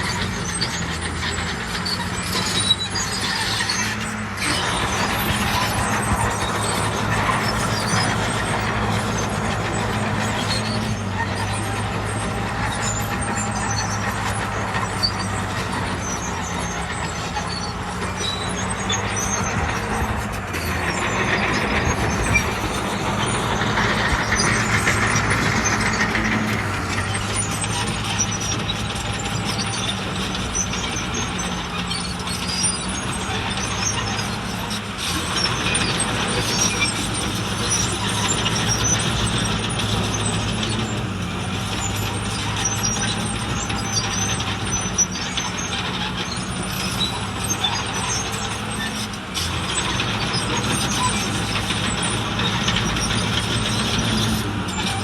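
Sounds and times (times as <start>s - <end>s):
diesel engine drone: 0.0s - 55.0s
rushing clattering noise: 0.0s - 55.0s.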